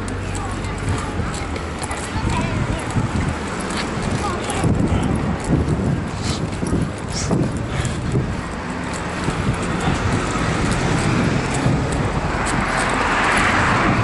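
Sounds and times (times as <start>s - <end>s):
car passing: 0.0s - 14.0s
low traffic rumble: 0.0s - 14.0s.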